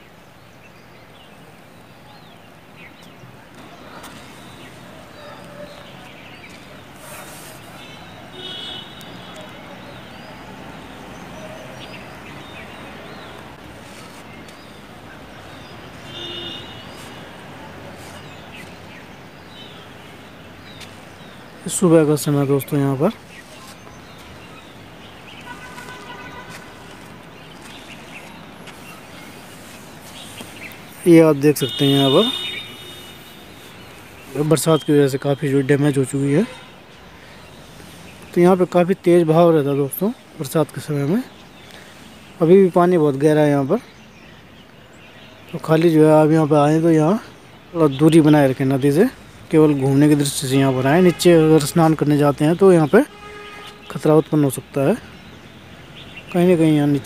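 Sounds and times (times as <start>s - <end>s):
low background noise: 0.0s - 57.0s.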